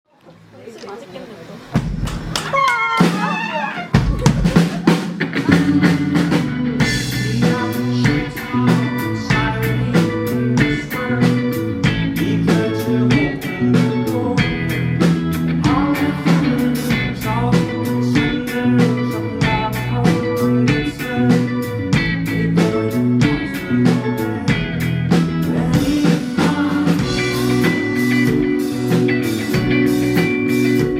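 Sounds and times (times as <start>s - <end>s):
drum kit beat: 1.7s - 30.9s
bass guitar line: 1.8s - 30.9s
electric guitar: 1.8s - 30.9s.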